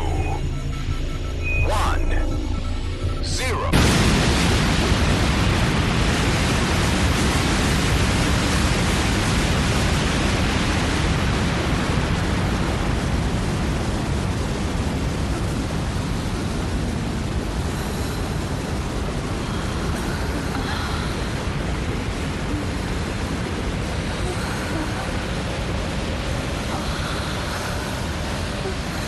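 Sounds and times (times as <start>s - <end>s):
rocket launch roar: 3.7s - 29.0s.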